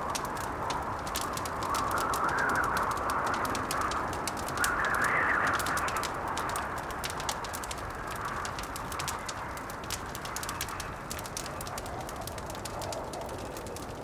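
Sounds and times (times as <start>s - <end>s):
howling blizzard wind: 0.0s - 14.0s
wood fire crackling: 0.0s - 14.0s.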